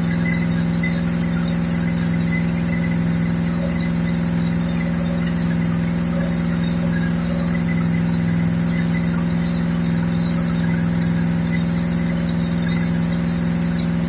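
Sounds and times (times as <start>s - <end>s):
car engine running steadily: 0.0s - 14.0s
steady high whine: 0.0s - 14.0s.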